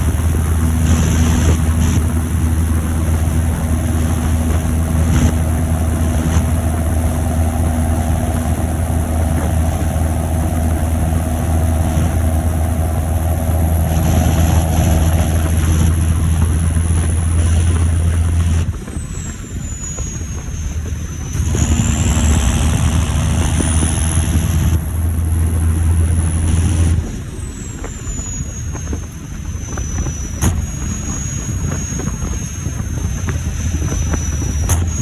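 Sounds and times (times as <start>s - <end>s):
high turbo whistle: 0.0s - 35.0s
tractor diesel engine running: 0.0s - 35.0s.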